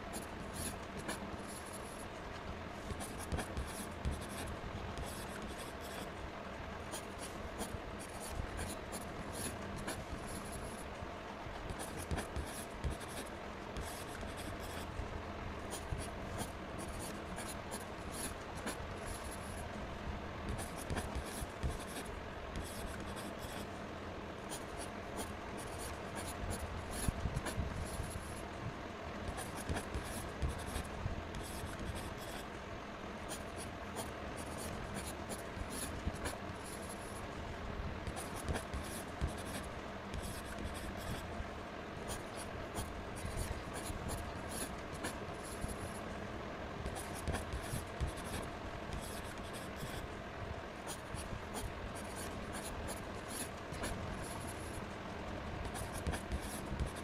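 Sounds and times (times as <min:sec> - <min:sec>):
pen scratching on paper: 0:00.1 - 0:02.0, 0:02.8 - 0:06.1, 0:06.9 - 0:10.8, 0:11.5 - 0:14.9, 0:15.7 - 0:19.6, 0:20.5 - 0:23.7, 0:24.5 - 0:28.4, 0:29.3 - 0:32.4, 0:33.3 - 0:37.2, 0:38.0 - 0:41.2, 0:42.1 - 0:45.9, 0:46.9 - 0:50.1, 0:50.9 - 0:54.8, 0:55.7 - 0:57.0.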